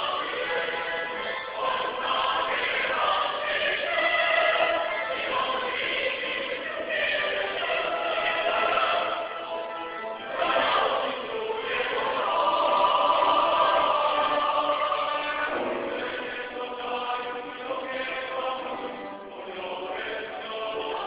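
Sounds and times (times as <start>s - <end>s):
church choir singing: 0.0s - 21.0s.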